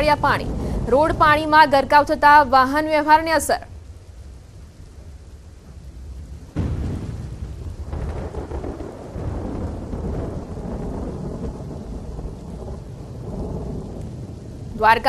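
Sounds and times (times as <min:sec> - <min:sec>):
heavy rain: 0:00.0 - 0:15.0
thunder rumbling: 0:00.0 - 0:15.0.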